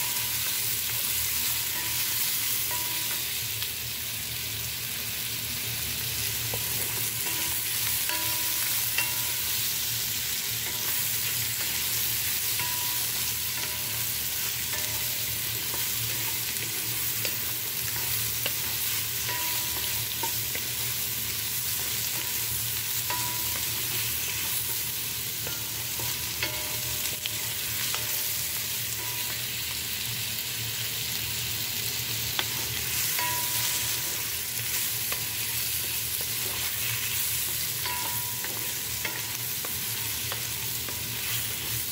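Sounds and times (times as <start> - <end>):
vegetables sizzling in a wok: 0.0 - 41.9.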